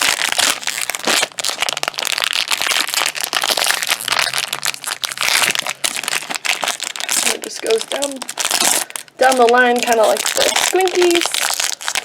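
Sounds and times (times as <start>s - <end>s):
packaging crinkling and crackling: 0.0s - 12.0s.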